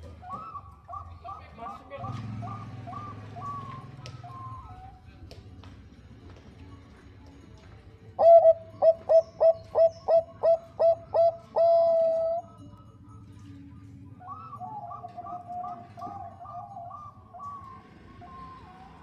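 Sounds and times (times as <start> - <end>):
dove cooing: 0.0 - 5.3, 8.2 - 12.9, 13.8 - 19.0.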